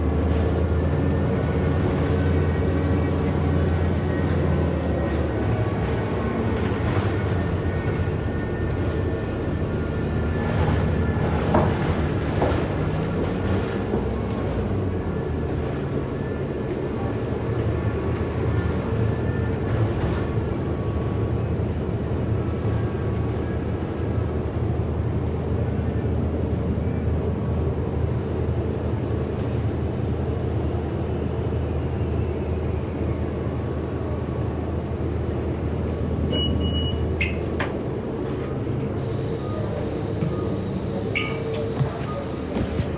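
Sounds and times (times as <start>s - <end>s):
bus drivetrain drone: 0.0s - 30.3s, 32.7s - 42.9s.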